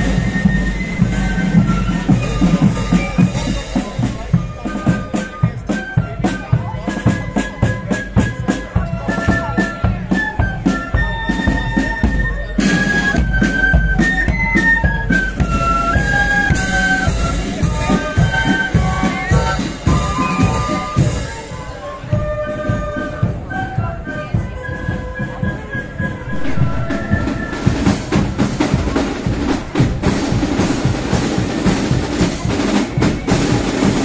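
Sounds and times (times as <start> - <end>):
march drum beat: 0.0 - 24.9, 26.2 - 34.0
flutes playing melody: 0.0 - 34.0.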